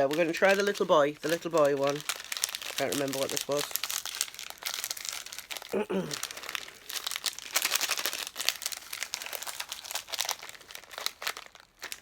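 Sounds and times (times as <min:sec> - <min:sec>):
plastic snack packet crinkling: 0:00.0 - 0:12.0.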